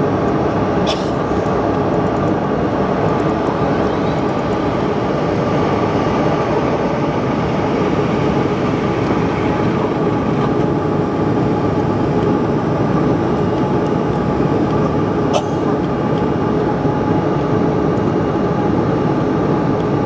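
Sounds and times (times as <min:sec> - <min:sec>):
airflow rush: 0:00.0 - 0:17.1
jet engines under climb power: 0:00.0 - 0:20.0.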